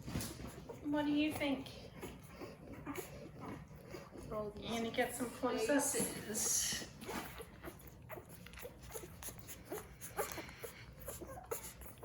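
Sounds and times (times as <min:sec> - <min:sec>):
puppies squeaking and grunting: 0:00.0 - 0:12.0.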